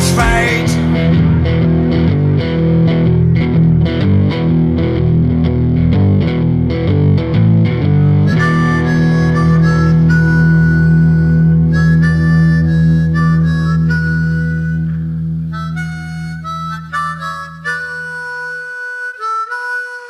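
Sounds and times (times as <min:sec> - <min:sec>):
rock music with electric guitar: 0:00.0 - 0:18.3.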